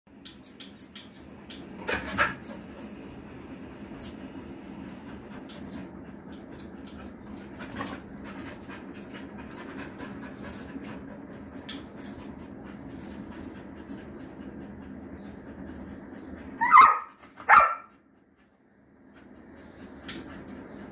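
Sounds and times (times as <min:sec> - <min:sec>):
dog panting: 0:00.9 - 0:20.9.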